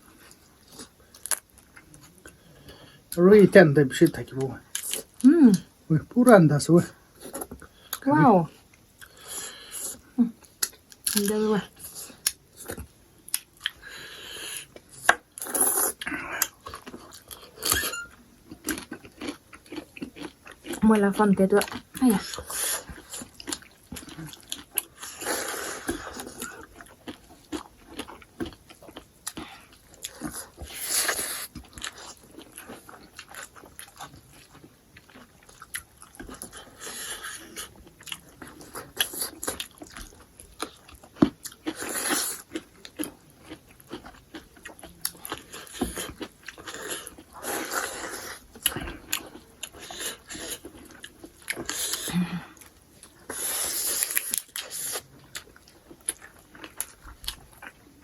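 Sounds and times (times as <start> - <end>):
person chewing with wet clicks: 0.2 - 3.2, 4.1 - 5.6, 8.7 - 13.8, 14.4 - 58.0.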